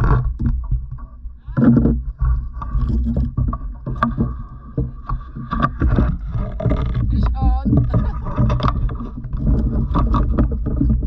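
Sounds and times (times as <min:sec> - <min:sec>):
knocks and clatters in kayak: 0:00.0 - 0:11.0
wind rumble on microphone: 0:00.0 - 0:11.0.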